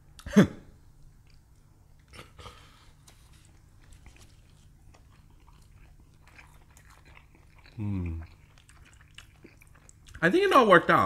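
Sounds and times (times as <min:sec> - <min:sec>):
chewing and mouth sounds: 0:01.2 - 0:10.6.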